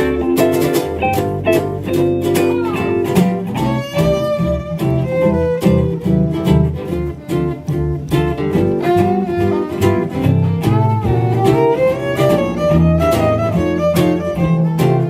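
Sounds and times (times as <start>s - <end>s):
fiddle lead: 0.0s - 15.0s
strummed rhythm guitar: 0.0s - 15.0s
walking bass: 0.0s - 15.0s.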